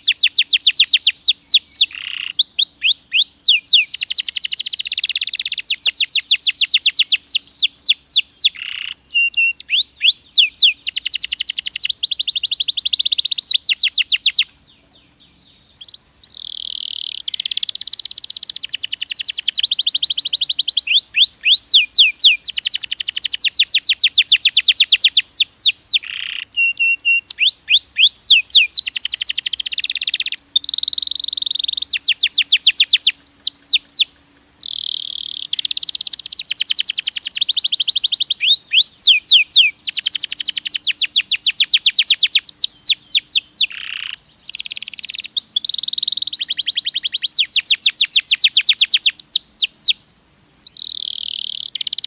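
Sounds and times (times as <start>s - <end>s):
canary trilling: 0.0s - 14.5s, 15.8s - 34.0s, 34.6s - 49.9s.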